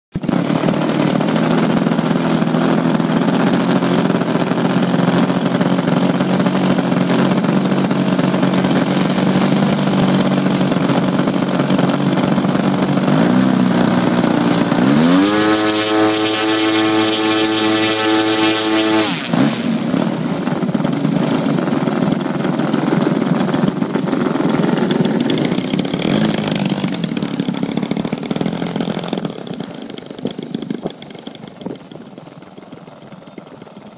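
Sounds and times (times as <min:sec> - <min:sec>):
engine running and revving: 0:00.1 - 0:33.8.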